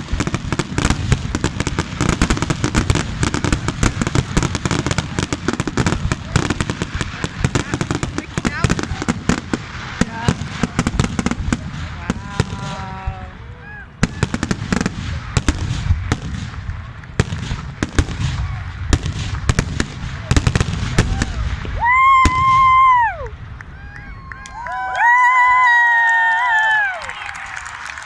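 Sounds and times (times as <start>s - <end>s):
fireworks cracking and banging: 0.0s - 28.0s
people's voices: 2.4s - 15.5s, 16.2s - 28.0s.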